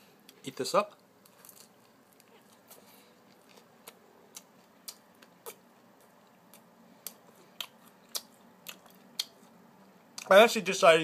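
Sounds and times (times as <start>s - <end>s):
person chewing food: 1.2s - 10.3s.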